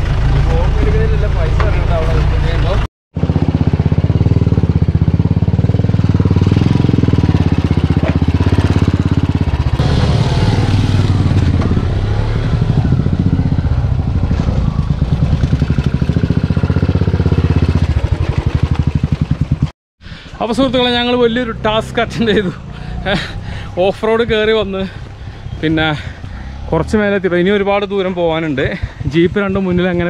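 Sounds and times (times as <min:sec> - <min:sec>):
jeep engine running under load: 0:00.0 - 0:19.6, 0:20.3 - 0:28.8.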